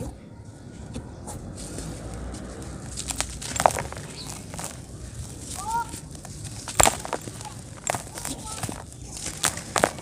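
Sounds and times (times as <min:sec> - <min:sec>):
dry clay cracking and crumbling: 0:01.4 - 0:10.0.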